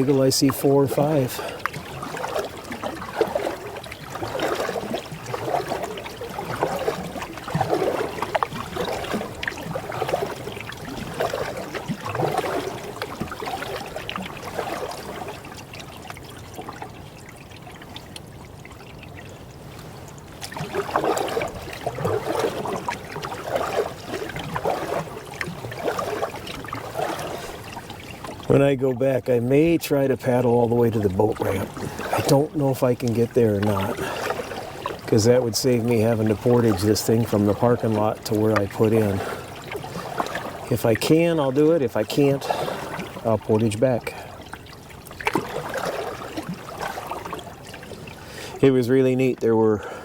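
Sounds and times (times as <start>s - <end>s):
paddle swishing through water: 0.0s - 50.0s
water trickling off paddle: 0.0s - 50.0s.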